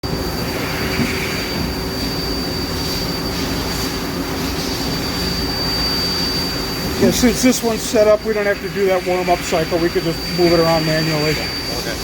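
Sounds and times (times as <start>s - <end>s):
high-pitched whine: 0.0s - 12.0s
machine-shop hum: 0.0s - 12.0s.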